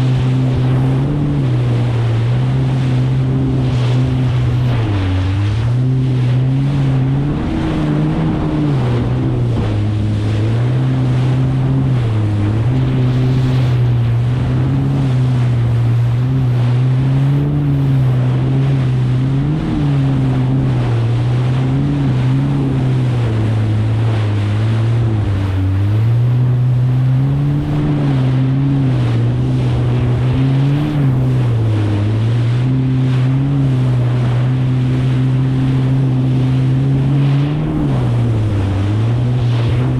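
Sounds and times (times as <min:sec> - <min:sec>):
jet ski engine running: 0:00.0 - 0:39.9
water rushing: 0:00.0 - 0:39.9
wind: 0:00.0 - 0:39.9.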